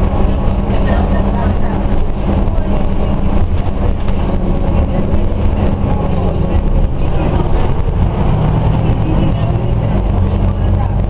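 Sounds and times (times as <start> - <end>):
bus engine running: 0.0 - 11.0
road and rattle noise: 0.0 - 11.0.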